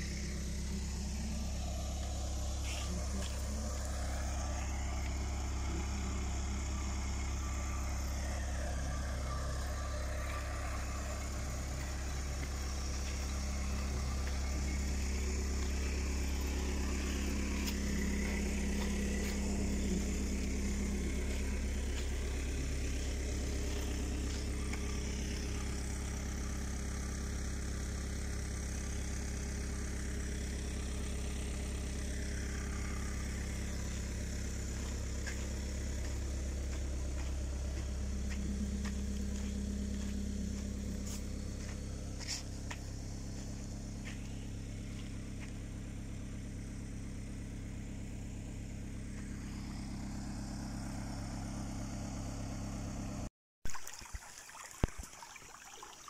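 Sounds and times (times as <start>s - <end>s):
diesel engine idling: 0.0s - 53.3s.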